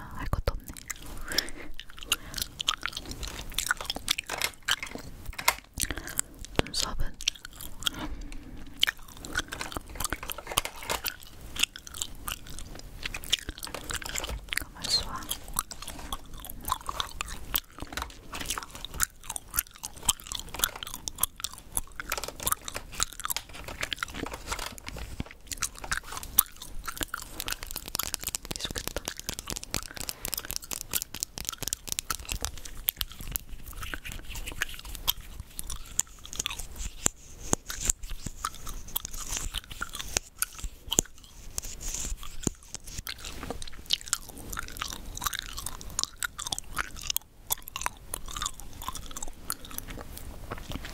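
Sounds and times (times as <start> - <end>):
gum chewing mouth clicks: 0.0 - 50.9.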